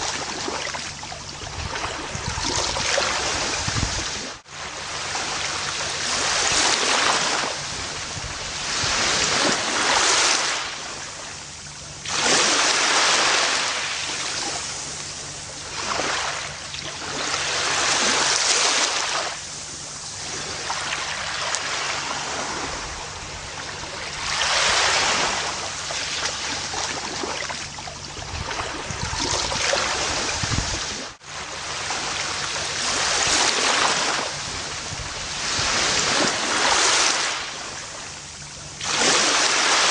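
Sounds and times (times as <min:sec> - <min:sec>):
ocean waves breaking on a beach: 0:00.0 - 0:39.9.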